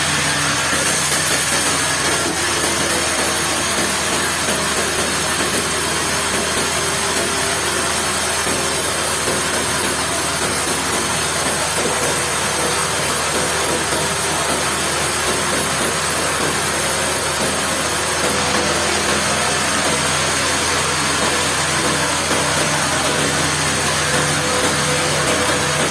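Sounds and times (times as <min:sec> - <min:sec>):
sawmill machinery hiss: 0:00.0 - 0:25.9.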